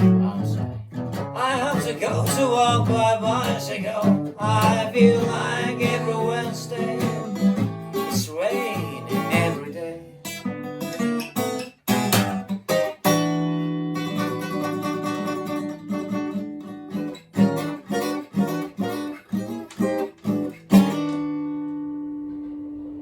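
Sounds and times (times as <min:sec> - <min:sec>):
fingerpicked acoustic guitar blues: 0:00.0 - 0:23.0.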